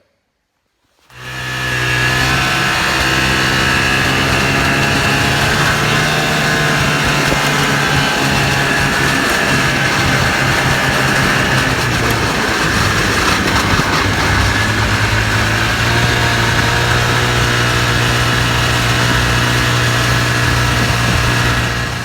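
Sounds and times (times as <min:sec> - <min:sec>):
snowmobile engine running: 0:01.1 - 0:22.0.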